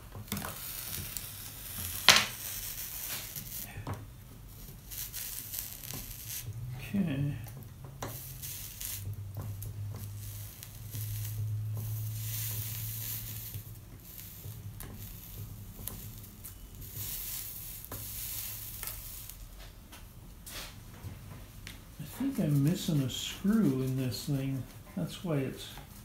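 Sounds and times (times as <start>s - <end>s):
soldering iron sizzling: 0.0s - 20.8s, 21.6s - 26.0s.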